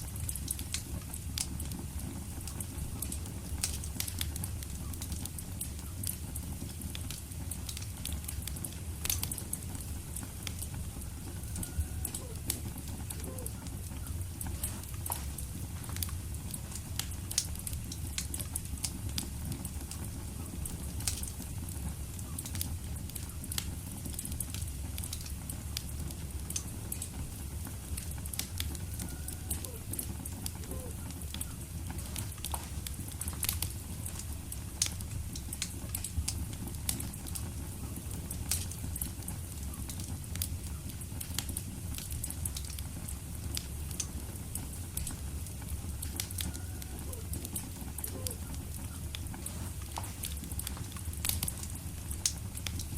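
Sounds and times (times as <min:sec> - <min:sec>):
low rush of flame: 0:00.0 - 0:52.9
wood fire crackling and popping: 0:00.0 - 0:52.9.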